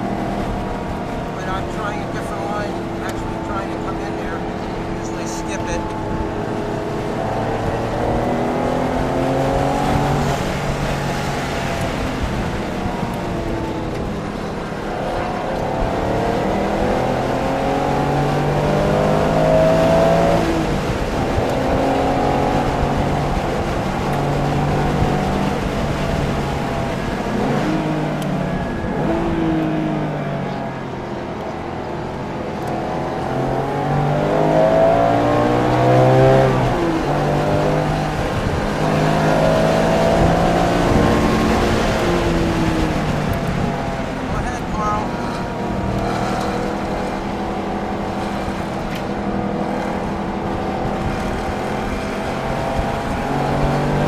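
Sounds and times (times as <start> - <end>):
sports car engine revving: 0.0 - 54.0.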